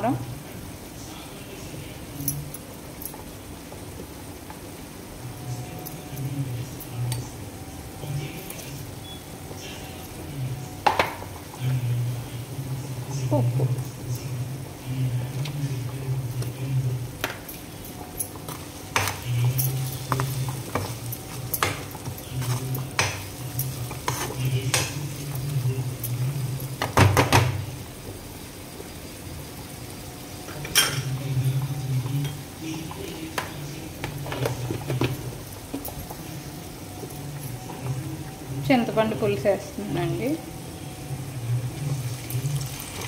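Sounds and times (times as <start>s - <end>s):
light sizzle: 0.0s - 43.0s.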